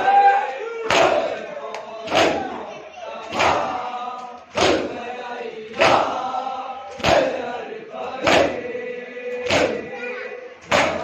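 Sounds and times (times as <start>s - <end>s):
men slapping chests in unison: 0.0s - 9.9s, 10.6s - 11.0s
men chanting together: 0.0s - 11.0s.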